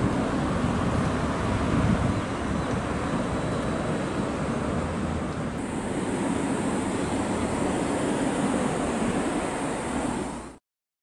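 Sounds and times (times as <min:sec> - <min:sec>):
wind on microphone: 0:00.0 - 0:10.6.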